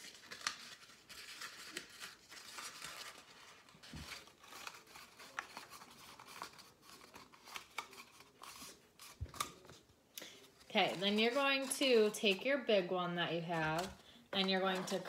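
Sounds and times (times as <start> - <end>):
paper rustling: 0.0 - 12.7, 13.3 - 15.0.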